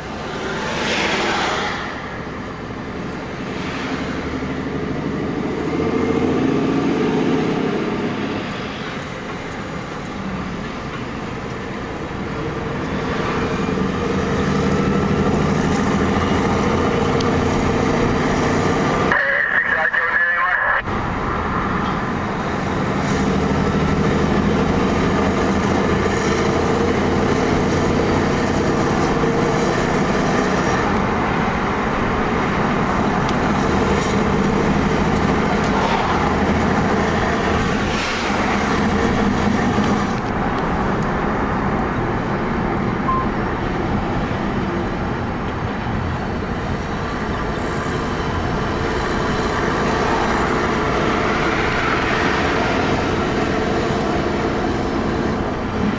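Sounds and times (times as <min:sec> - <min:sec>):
road and traffic noise: 0:00.0 - 0:55.9
heavy truck engine running: 0:01.9 - 0:55.9.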